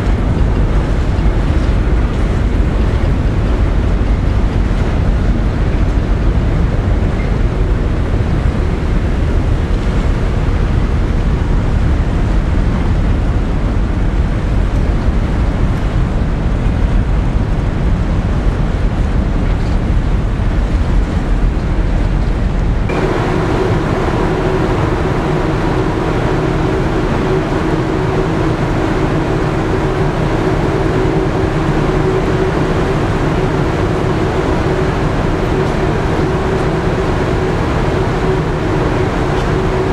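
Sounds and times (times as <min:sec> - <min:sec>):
droning machinery hum: 0:00.0 - 0:39.9
ship rumble: 0:00.0 - 0:39.9
wind buffeting microphone: 0:00.0 - 0:39.9.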